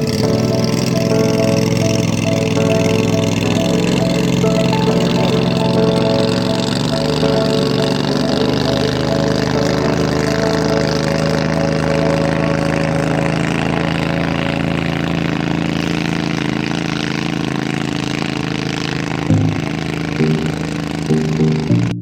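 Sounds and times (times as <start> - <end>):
short pitched notes: 0.0 - 15.6, 19.3 - 22.0
boat engine running: 0.0 - 22.0.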